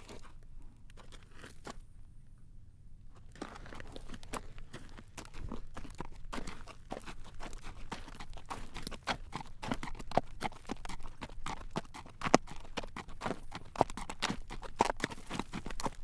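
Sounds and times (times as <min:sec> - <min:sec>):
horse hooves clip-clopping on pavement: 0:03.2 - 0:16.0.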